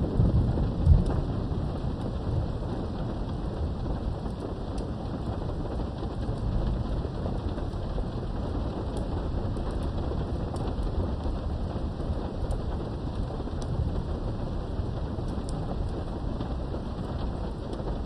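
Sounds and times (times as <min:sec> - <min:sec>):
low thunder rumble: 0:00.0 - 0:18.0
rain behind a window: 0:00.0 - 0:18.0.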